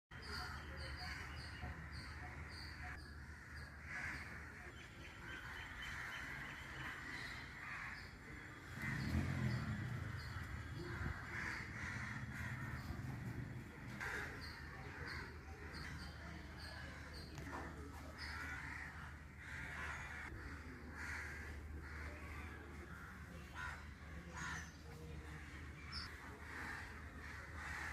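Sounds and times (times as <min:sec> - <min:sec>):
garden ambience: 0:00.1 - 0:27.9
crows cawing: 0:00.5 - 0:04.8, 0:05.4 - 0:17.2, 0:18.1 - 0:27.9.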